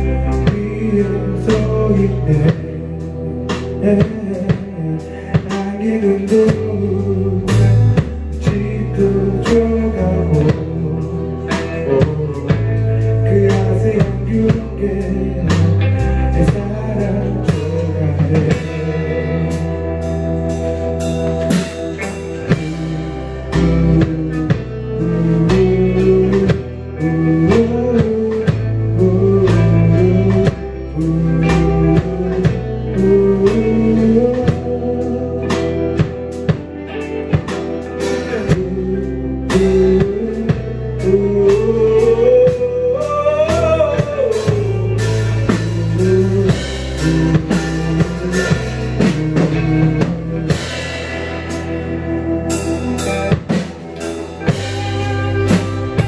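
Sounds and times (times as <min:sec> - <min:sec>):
drum kit beat: 0:00.0 - 0:56.0
electric bass: 0:00.0 - 0:56.0
electric guitars: 0:00.0 - 0:56.0.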